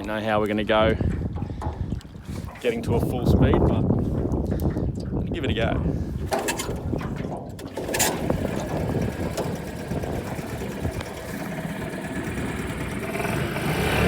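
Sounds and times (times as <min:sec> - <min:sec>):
outboard motor running: 0:01.0 - 0:14.0.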